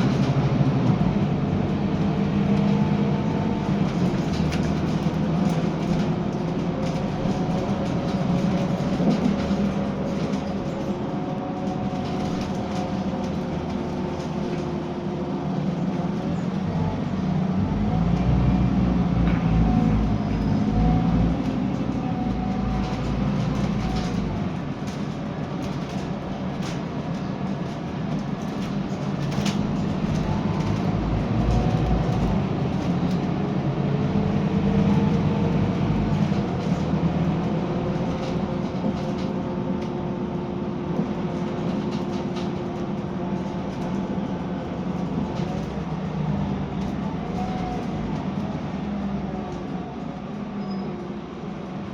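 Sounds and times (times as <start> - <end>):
bus engine drone: 0.0 - 51.9.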